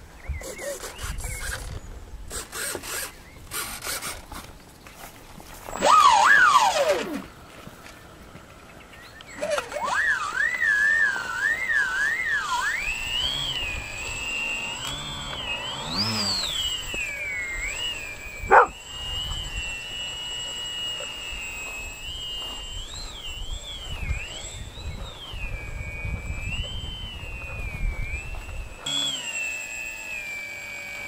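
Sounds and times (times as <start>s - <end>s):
electric model plane motors whining: 0.0s - 31.0s.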